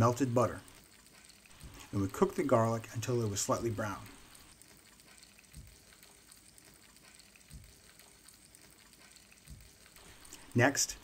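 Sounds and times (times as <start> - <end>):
garlic sizzling in butter: 0.0 - 11.0.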